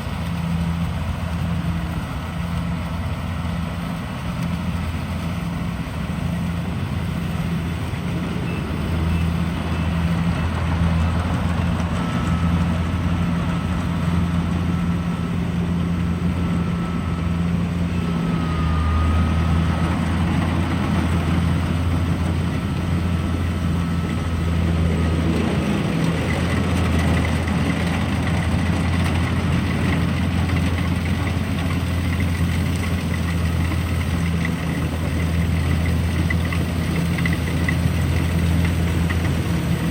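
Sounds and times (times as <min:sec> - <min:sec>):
harvesting machine engine humming: 0:00.0 - 0:39.9.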